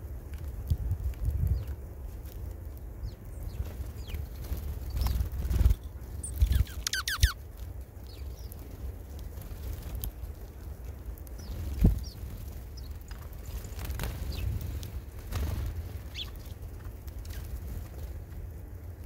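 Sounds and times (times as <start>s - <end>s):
small birds chirping: 0.7s - 18.5s.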